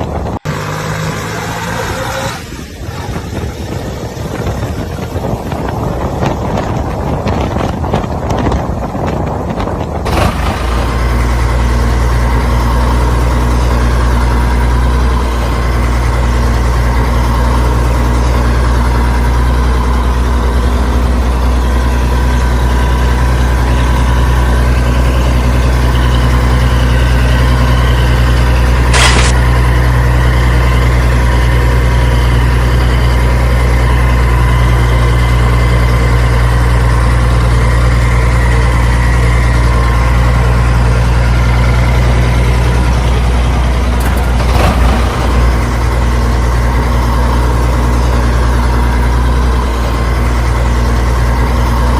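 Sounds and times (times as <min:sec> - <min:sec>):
engine idling: 0:02.4 - 0:51.9.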